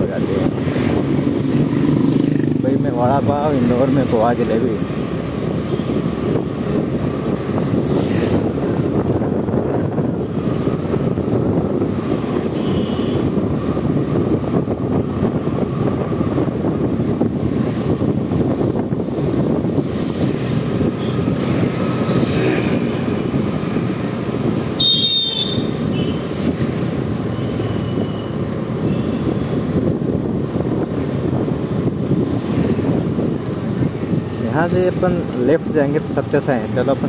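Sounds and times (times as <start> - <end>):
engine and road noise: 0.0 - 37.0
wind noise on microphone: 0.0 - 37.0.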